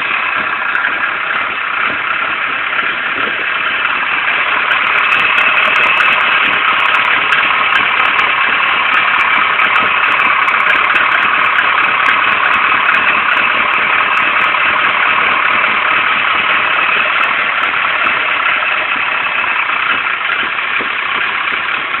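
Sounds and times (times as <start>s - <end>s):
car engine idling roughly: 0.0s - 22.0s.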